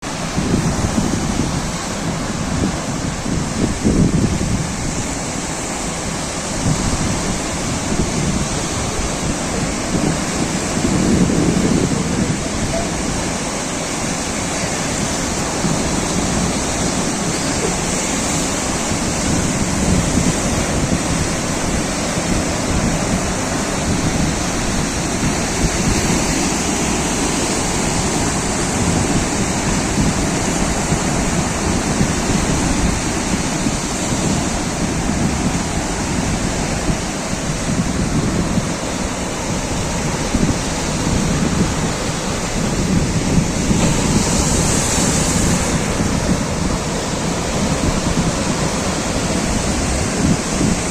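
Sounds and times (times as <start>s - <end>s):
sea waves washing in: 0.0s - 50.9s.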